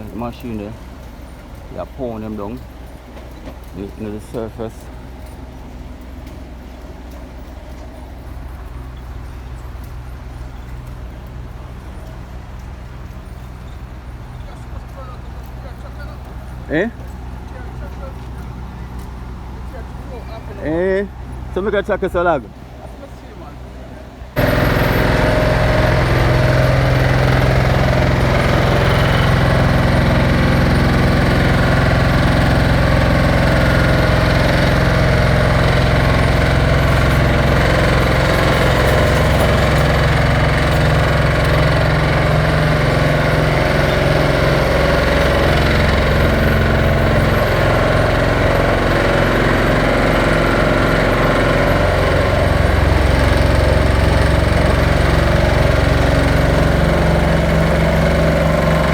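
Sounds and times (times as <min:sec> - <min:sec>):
heavy diesel machinery rattling: 0:00.0 - 0:58.9.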